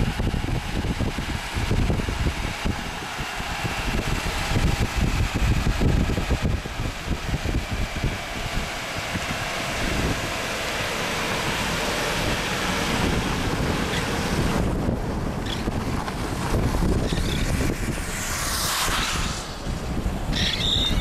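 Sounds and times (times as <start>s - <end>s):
gusty wind on microphone: 0.0s - 21.0s
low wind rumbles: 0.0s - 21.0s.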